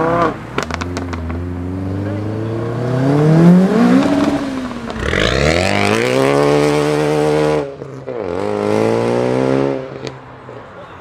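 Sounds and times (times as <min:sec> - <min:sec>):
car engine revving hard: 0:00.0 - 0:10.1.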